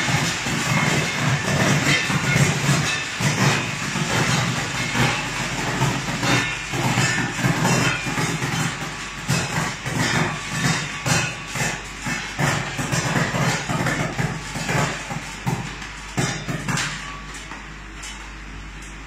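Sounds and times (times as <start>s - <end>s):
sorting machine humming: 0.0s - 19.0s.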